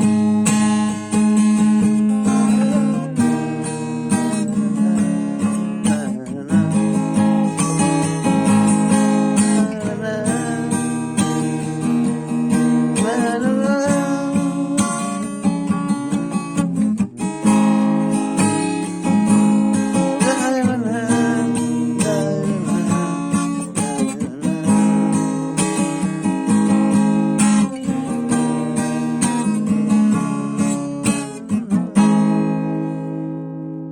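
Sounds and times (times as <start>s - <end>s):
instrument chords strummed: 0.0s - 33.9s.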